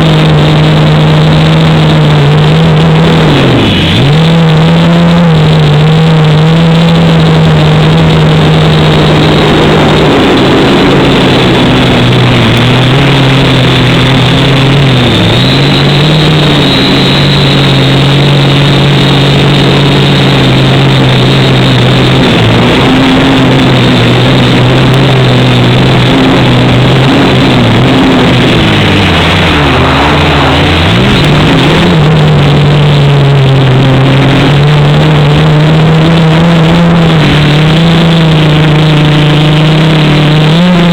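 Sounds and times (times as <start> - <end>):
quadcopter motors humming: 0.0 - 40.9.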